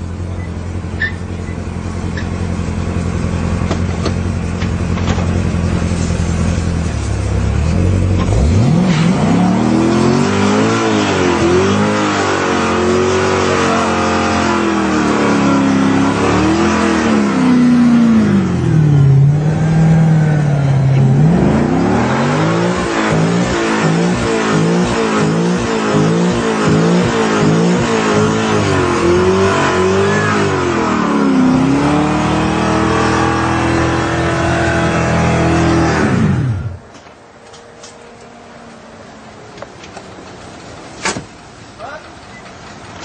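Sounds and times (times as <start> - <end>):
car engine revving: 0.0 - 39.6.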